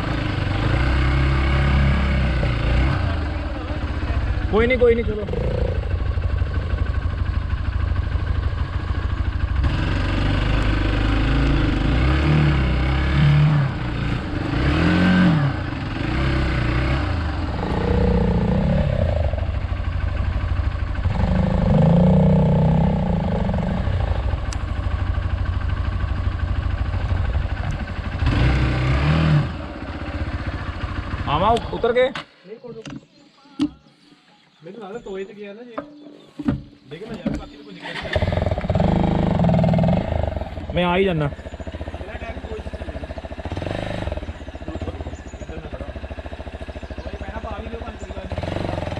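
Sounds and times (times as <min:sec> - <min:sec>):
motorcycle engine revving: 0:00.0 - 0:32.1, 0:37.8 - 0:48.9.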